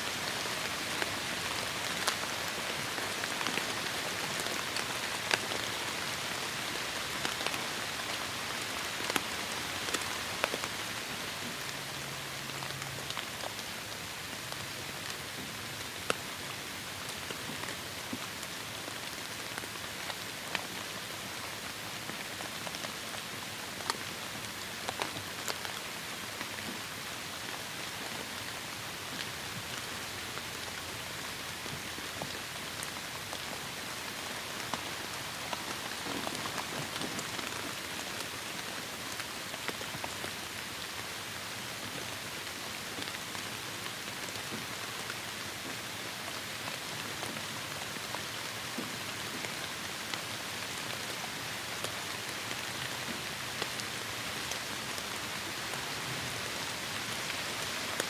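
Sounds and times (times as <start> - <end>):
heavy rain pattering: 0.1 - 58.0.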